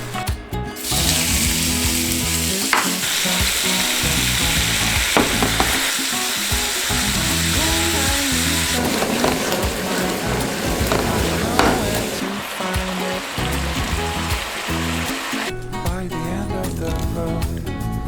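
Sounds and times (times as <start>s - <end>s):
background music: 0.0s - 18.0s
food sizzling in a frying pan: 0.8s - 15.5s.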